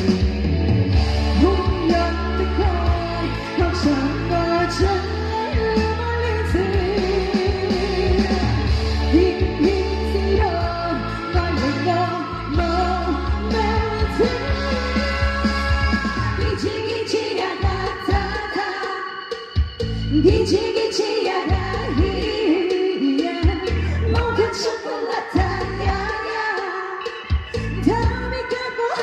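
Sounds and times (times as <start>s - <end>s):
backing music with bass and drums: 0.0s - 29.0s
woman singing pop-rock: 1.0s - 29.0s.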